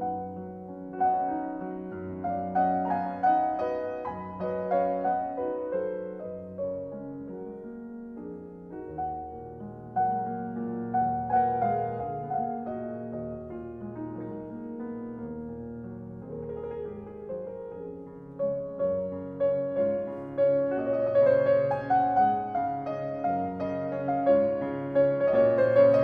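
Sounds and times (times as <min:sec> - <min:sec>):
soft slow piano music: 0:00.0 - 0:26.0.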